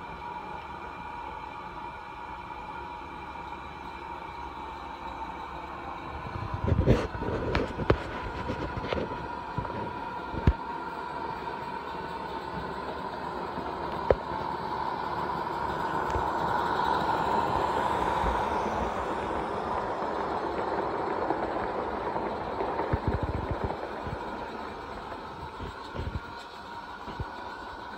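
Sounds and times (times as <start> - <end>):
faint steady whine: 0.0 - 27.9
model train rolling along track: 0.0 - 27.9.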